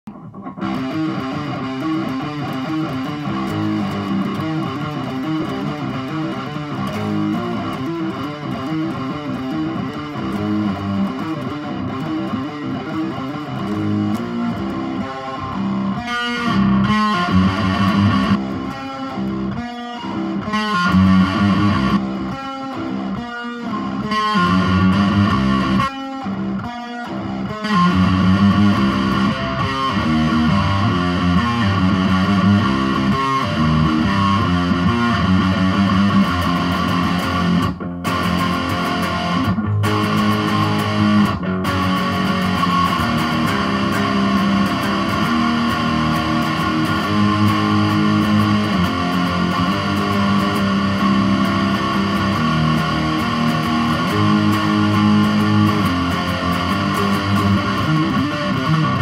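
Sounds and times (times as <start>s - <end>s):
electric guitar picked: 0.0s - 59.0s.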